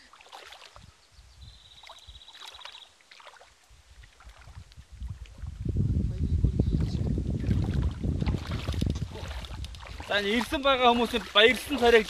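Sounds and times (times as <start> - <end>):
shallow water splashing and lapping: 0.0 - 1.0, 1.6 - 5.7, 6.7 - 12.0
wind rumble on microphone: 0.7 - 2.2, 3.7 - 12.0.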